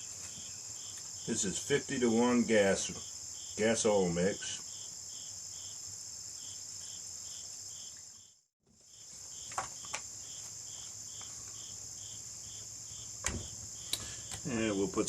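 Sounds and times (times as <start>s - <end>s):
insect chorus chirping: 0.0s - 15.0s.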